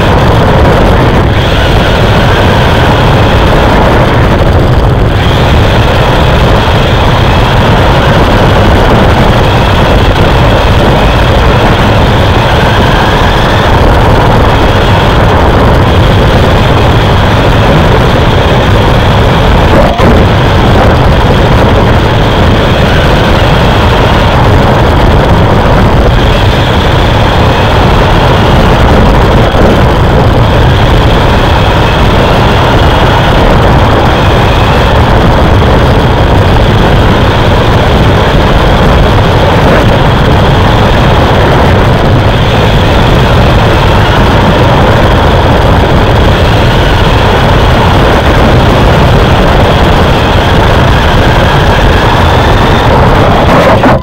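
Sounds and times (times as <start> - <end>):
race car engine running hard: 0.0 - 54.0
road and wind noise: 0.0 - 54.0.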